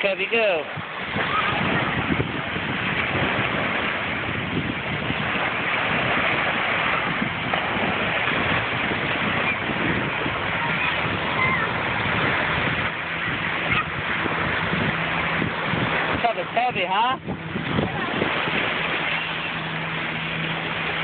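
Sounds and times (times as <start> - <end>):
small waves washing on shore: 0.0 - 21.0
wind buffeting microphone: 0.0 - 21.0.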